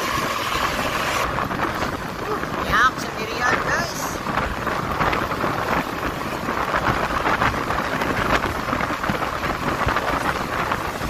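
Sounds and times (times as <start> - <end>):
engine and tyre noise: 0.0 - 11.0
wind on microphone: 0.0 - 11.0.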